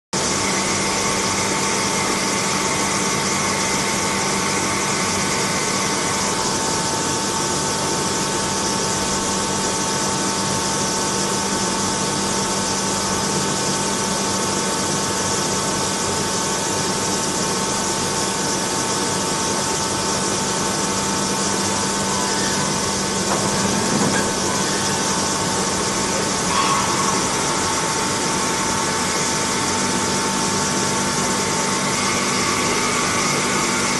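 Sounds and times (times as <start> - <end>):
lathe machine whine: 0.2 - 33.9.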